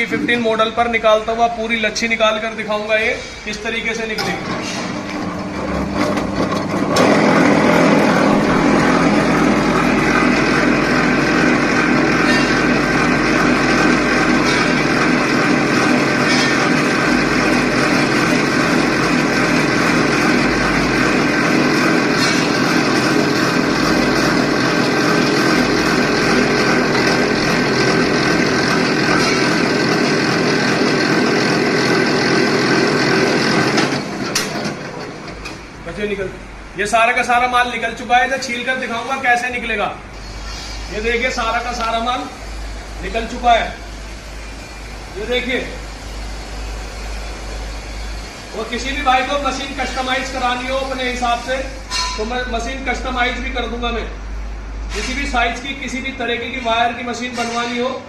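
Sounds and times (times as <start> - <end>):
wire stripping machine humming: 3.9 - 36.8, 39.5 - 56.6.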